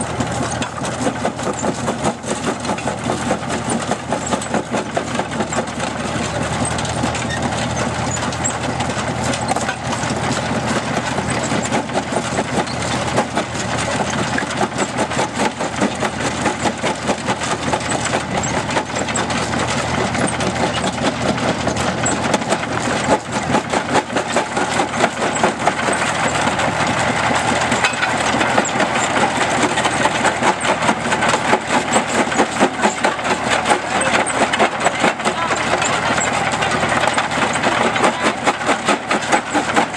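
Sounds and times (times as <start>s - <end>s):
engine drone: 0.0s - 39.9s
rock crusher knocking: 0.0s - 39.9s.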